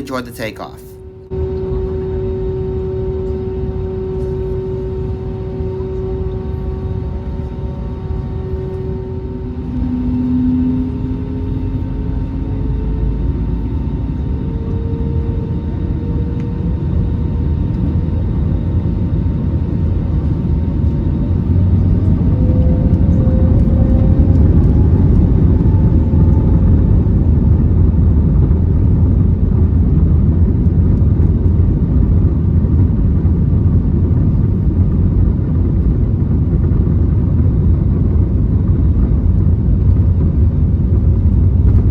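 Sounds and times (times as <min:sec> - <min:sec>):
jet engines whining: 0:00.0 - 0:41.9
deep engine rumble: 0:01.0 - 0:41.9.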